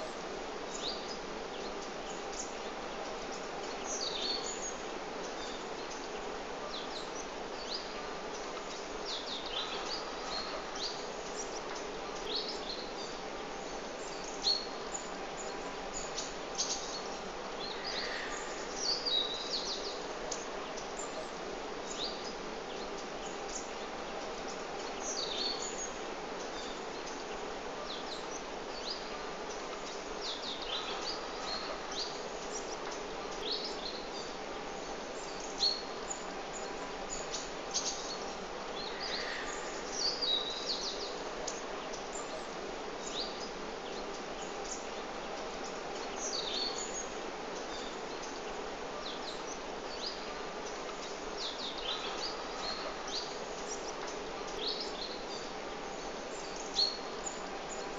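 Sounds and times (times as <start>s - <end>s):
outdoor background hiss: 0.0s - 57.9s
small birds chirping: 0.0s - 57.9s.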